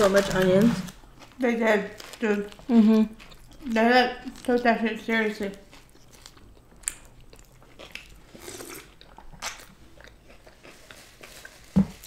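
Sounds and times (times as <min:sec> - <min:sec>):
wet chewing: 0:00.0 - 0:04.8, 0:05.4 - 0:11.6.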